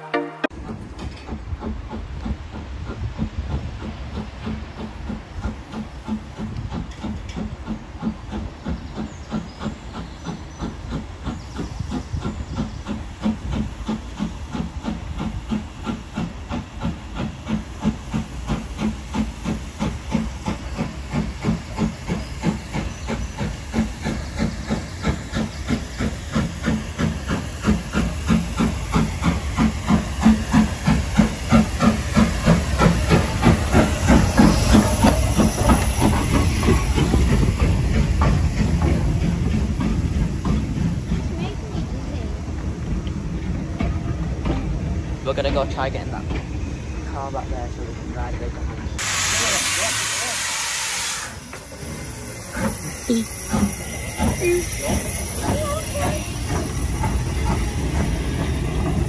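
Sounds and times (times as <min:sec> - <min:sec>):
steam locomotive rhythmic beat: 0:00.0 - 0:45.6, 0:49.0 - 0:59.0
steam hiss: 0:00.7 - 0:48.2, 0:48.8 - 0:59.0.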